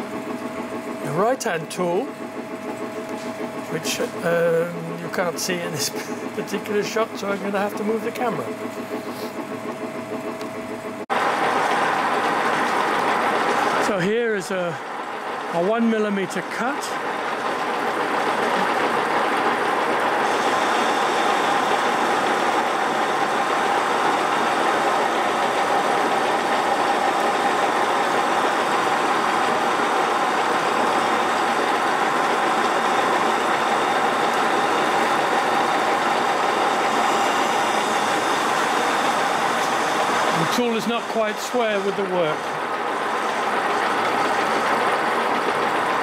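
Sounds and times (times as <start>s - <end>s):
metal lathe cutting: 0.0s - 46.0s.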